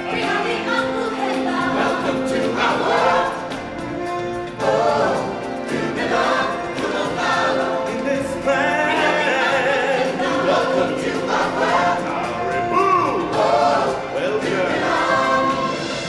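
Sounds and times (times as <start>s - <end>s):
backing music: 0.0s - 16.0s
chorus singing: 0.0s - 16.0s.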